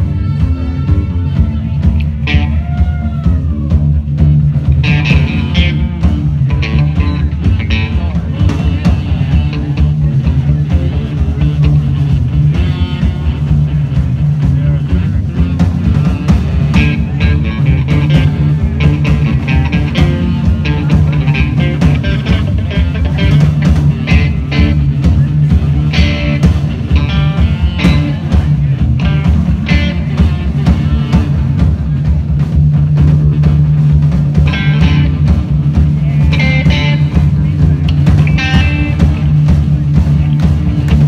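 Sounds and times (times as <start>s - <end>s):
drum strokes: 0.0s - 41.0s
electric guitar: 0.0s - 41.0s
rock band playing: 0.0s - 41.0s.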